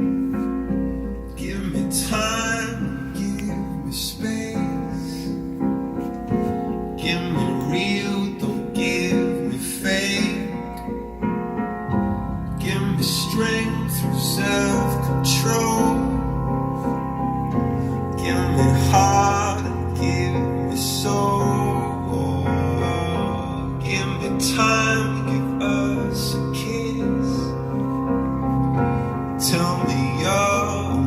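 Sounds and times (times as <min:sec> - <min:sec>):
song with singing over piano: 0:00.0 - 0:31.0.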